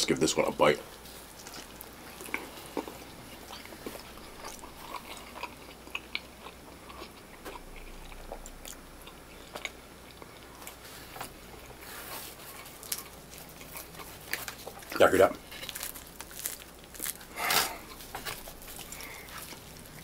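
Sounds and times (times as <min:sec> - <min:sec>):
chewing food: 0:01.1 - 0:20.0.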